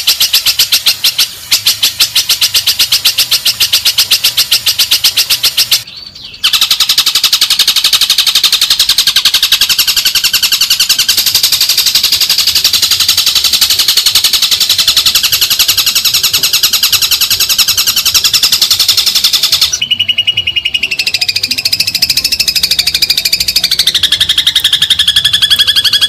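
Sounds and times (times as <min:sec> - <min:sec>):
songbird rattling trill: 0:00.0 - 0:26.0.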